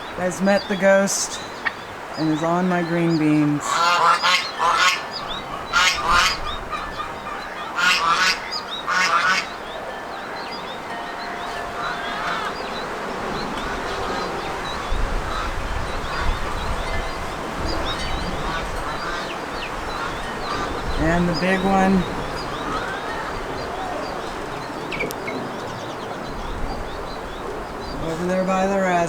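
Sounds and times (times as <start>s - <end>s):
geese honking: 0.0s - 29.0s.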